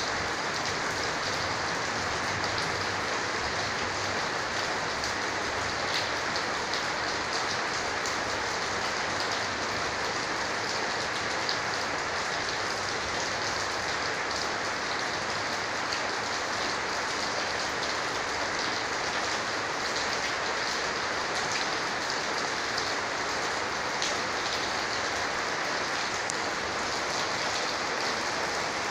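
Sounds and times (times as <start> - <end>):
heavy rain pouring: 0.0 - 28.9.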